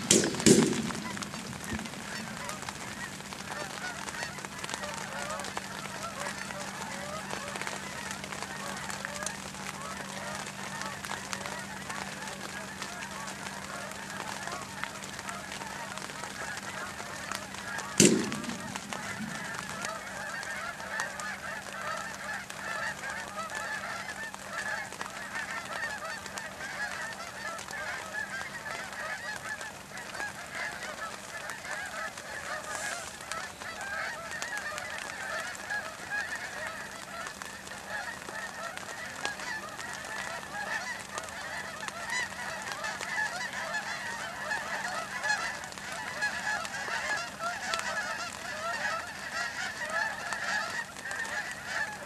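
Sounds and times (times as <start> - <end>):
geese honking: 0.0 - 52.0.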